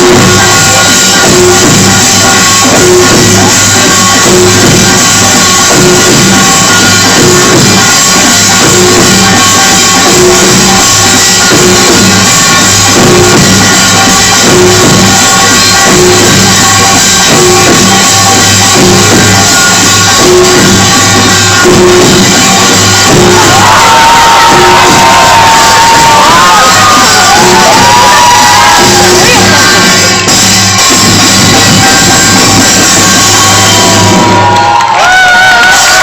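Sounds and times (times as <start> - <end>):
high held tone: 0.0 - 35.0
percussion music steady beat: 0.0 - 36.0.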